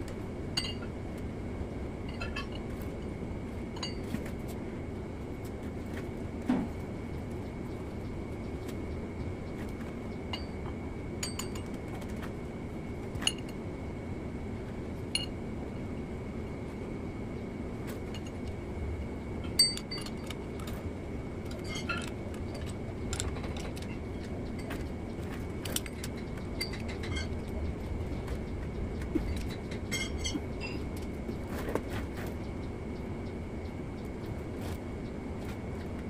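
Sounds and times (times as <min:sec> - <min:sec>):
faint high whine: 0:00.0 - 0:36.0
steady low hum: 0:00.0 - 0:36.0.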